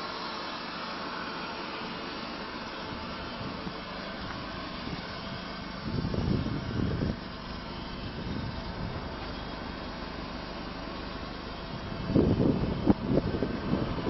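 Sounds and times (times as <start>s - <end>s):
car engine idling: 0.0s - 14.0s
loud irregular engine rumbles: 0.0s - 14.0s.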